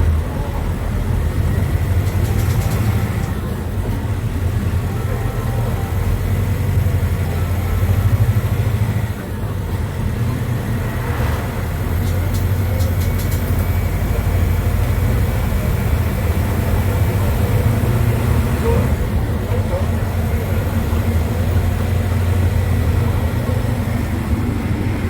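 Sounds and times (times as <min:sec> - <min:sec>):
bus diesel engine running: 0:00.0 - 0:25.0.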